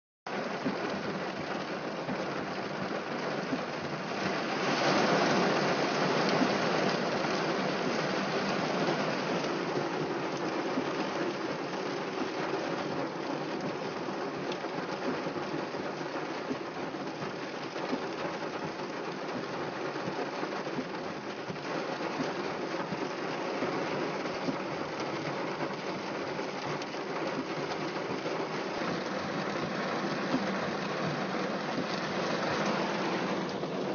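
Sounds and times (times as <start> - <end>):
heavy rain on a car: 0.3 - 33.9.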